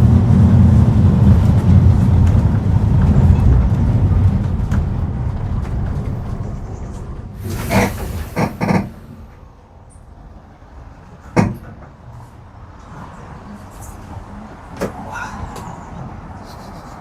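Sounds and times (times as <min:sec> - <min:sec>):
tram clunks: 0:00.0 - 0:17.0
tram rumbling: 0:00.0 - 0:17.0.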